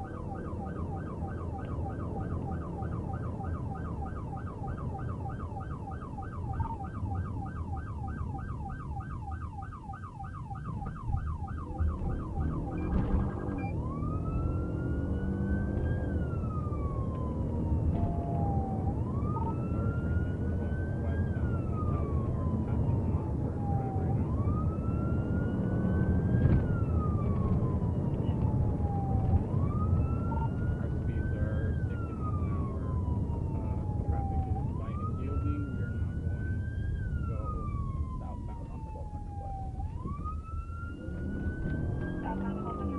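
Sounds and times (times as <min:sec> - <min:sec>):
police siren: 0:00.0 - 0:42.9
road and engine noise: 0:00.0 - 0:42.9.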